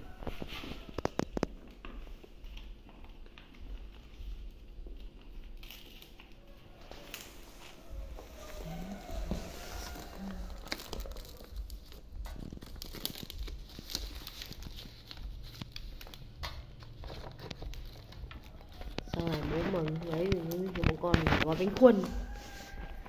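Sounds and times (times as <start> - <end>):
leaves rustling and crinkling: 0.0 - 2.2, 3.2 - 23.0.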